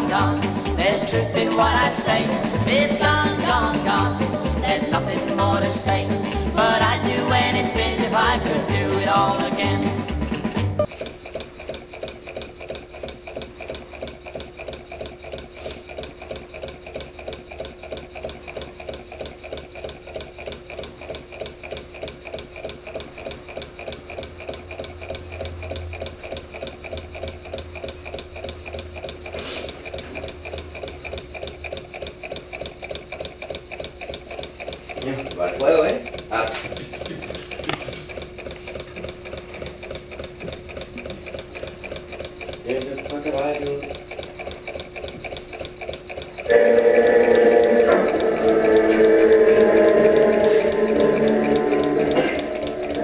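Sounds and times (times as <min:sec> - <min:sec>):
small engine ticking rhythmically: 0:00.0 - 0:53.0.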